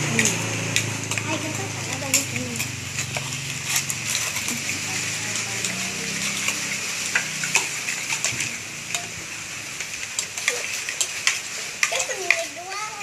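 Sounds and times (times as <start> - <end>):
spoon stirring wet slime: 0.0 - 13.0.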